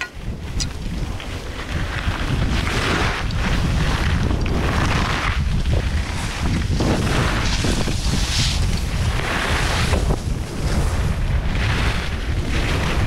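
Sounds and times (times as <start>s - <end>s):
wind rushing over microphone: 0.0s - 13.0s
skis scraping across snow: 0.2s - 13.0s.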